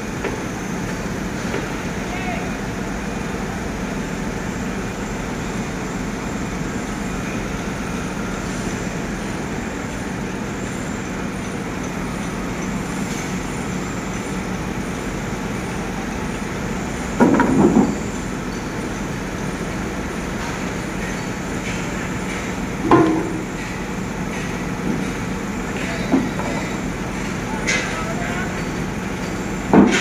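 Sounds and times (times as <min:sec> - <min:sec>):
diesel machinery idling: 0:00.0 - 0:30.0.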